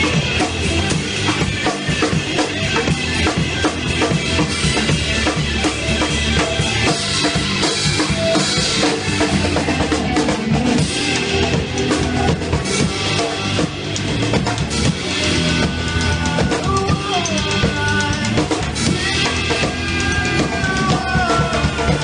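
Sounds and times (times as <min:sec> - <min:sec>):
band music: 0:00.0 - 0:22.0
bass drum and snare beat: 0:00.0 - 0:22.0.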